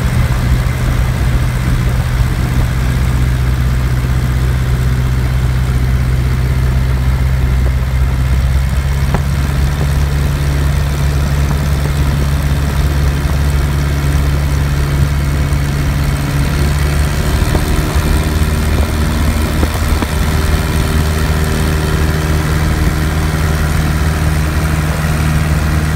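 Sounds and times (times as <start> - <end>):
light aircraft engine and propeller: 0.0 - 25.9
wind noise: 0.0 - 25.9.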